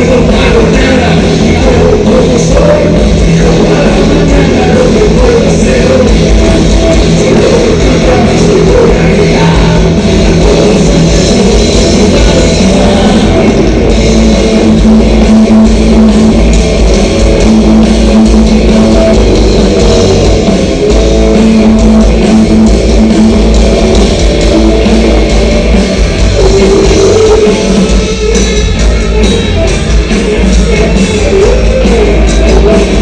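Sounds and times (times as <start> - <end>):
distorted electric guitars: 0.0 - 33.0
drum kit playing loudly: 0.0 - 33.0.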